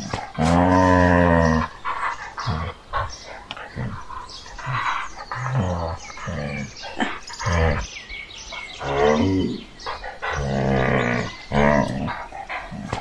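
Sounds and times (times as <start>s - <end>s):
bears growling and roaring: 0.0s - 13.0s.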